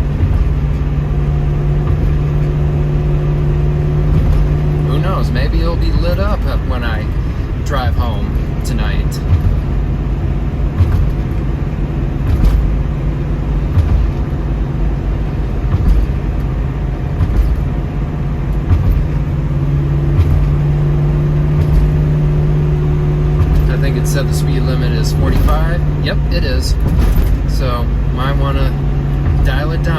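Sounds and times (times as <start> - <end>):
car engine drone from inside: 0.0 - 29.9.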